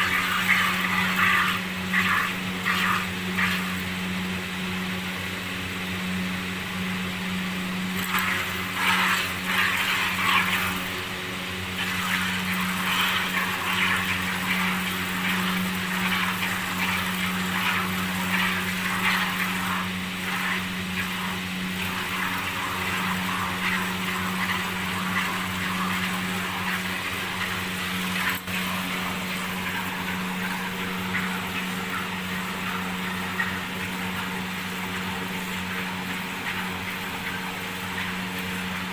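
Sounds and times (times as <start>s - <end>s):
steady machine hum: 0.0s - 38.9s.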